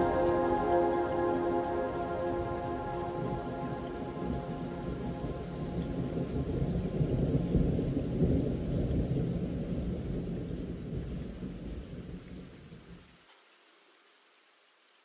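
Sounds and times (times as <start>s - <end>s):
rolling thunder: 0.0s - 12.1s
steady rain: 0.0s - 15.0s.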